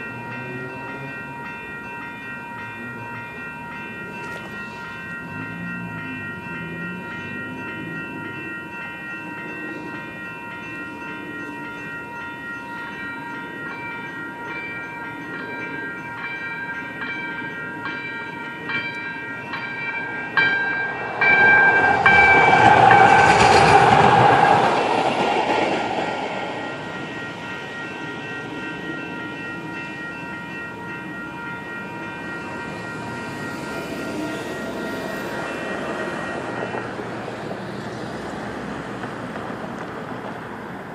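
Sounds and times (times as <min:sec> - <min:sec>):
train rumbling past: 0:00.0 - 0:14.8, 0:17.9 - 0:40.9
railroad crossing bells ringing: 0:00.0 - 0:40.9.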